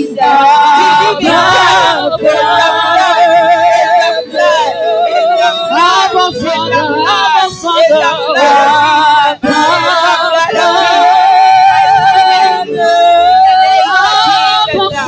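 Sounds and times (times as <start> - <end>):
person singing long notes: 0.0 - 15.0
sustained backing music: 0.0 - 15.0.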